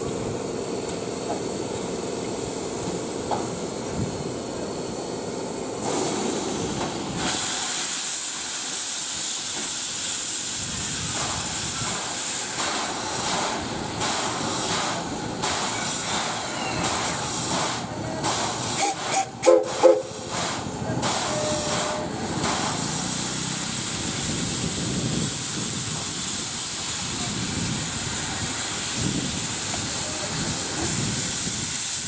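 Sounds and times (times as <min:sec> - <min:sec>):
locomotive steam hissing: 0:00.0 - 0:32.0.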